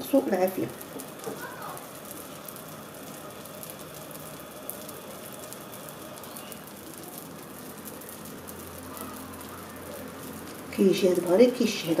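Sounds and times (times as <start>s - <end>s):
batter sizzling in a pan: 0.0s - 12.0s.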